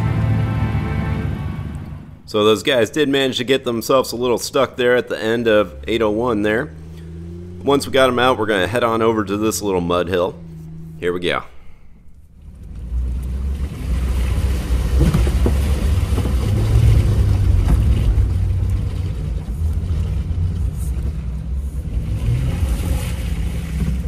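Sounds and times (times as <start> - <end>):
off-road vehicle engine under load: 0.0 - 24.0.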